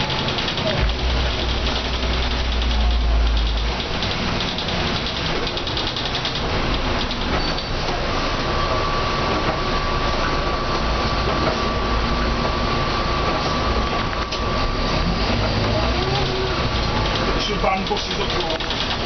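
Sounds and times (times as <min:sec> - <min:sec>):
bus engine running: 0:00.0 - 0:19.0
tyre and road noise: 0:00.0 - 0:19.0.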